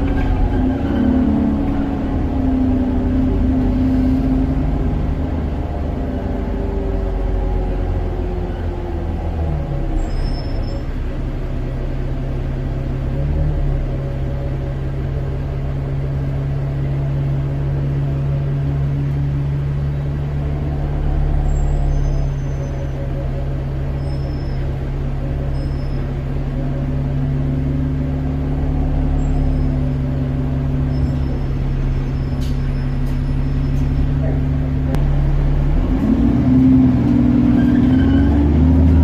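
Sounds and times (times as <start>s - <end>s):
bus engine droning: 0.0s - 39.0s.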